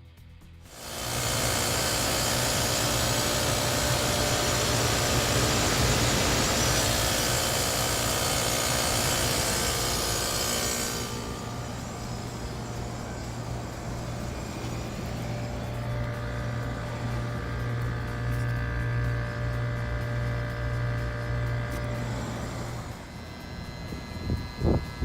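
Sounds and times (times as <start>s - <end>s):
low machine hum: 0.7s - 25.0s.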